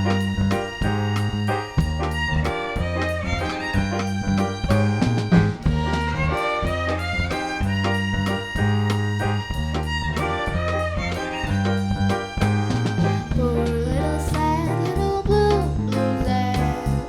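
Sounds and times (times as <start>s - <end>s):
violin lead line: 0.0s - 14.1s
jazz band playing a waltz: 0.0s - 17.0s.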